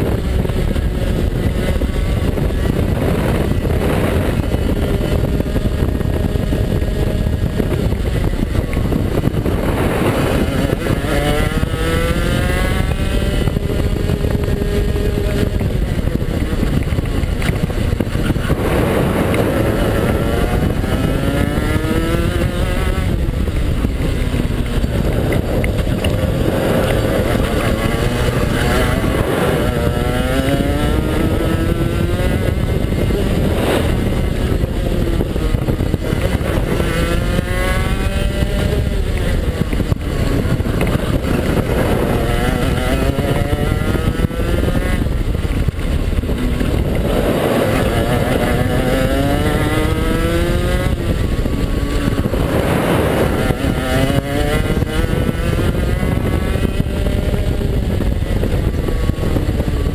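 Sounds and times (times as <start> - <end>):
kart engine revving: 0.0 - 59.9
wind rumble on microphone: 0.0 - 59.9.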